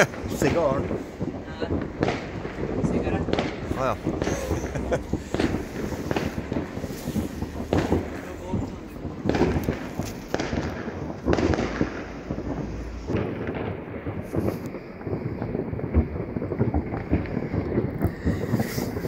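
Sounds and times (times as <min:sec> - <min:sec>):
firecrackers crackling: 0:00.0 - 0:19.0
heavy firework bangs: 0:00.0 - 0:19.0.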